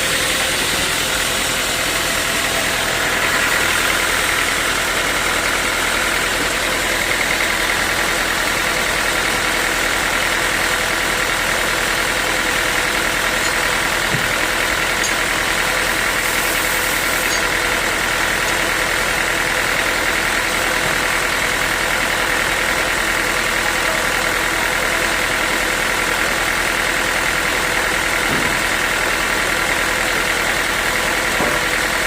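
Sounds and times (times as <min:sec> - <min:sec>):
sawmill saw running: 0:00.0 - 0:32.0.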